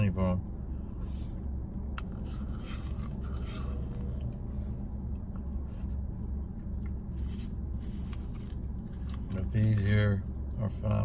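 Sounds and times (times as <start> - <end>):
low car cabin hum: 0.0 - 11.0.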